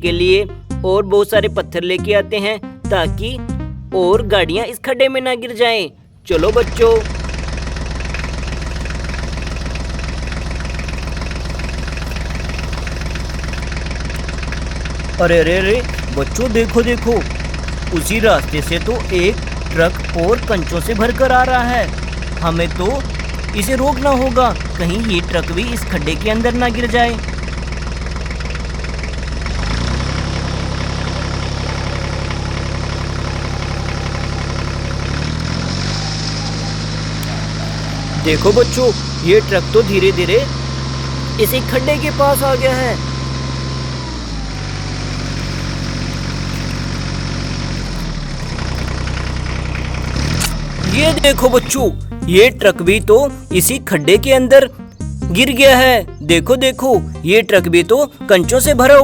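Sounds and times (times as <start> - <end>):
tractor engine idling: 0.0 - 5.1, 6.0 - 59.0.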